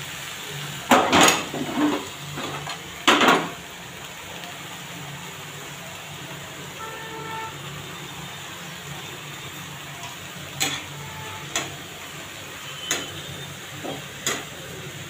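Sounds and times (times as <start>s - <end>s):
leaves sizzling in a pan: 0.0s - 15.0s.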